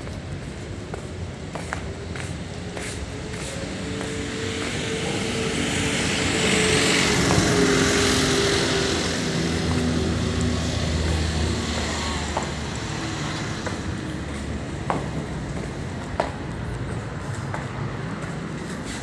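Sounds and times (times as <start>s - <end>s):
vehicle engine running: 2.1s - 18.9s.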